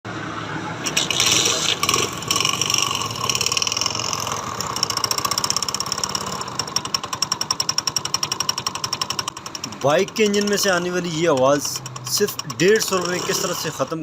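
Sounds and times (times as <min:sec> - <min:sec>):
motorcycle engine revving and idling: 0:00.1 - 0:14.0
rapid ticking engine knock: 0:01.0 - 0:14.0.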